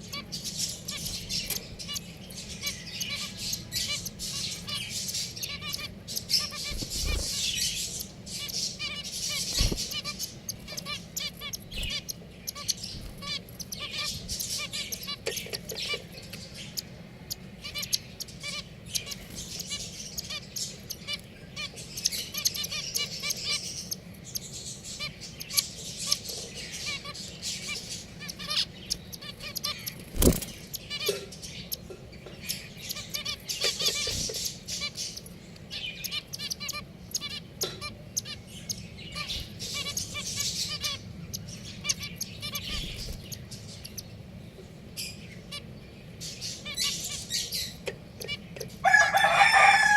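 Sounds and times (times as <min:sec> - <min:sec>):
finches chirping: 0:00.0 - 0:49.9.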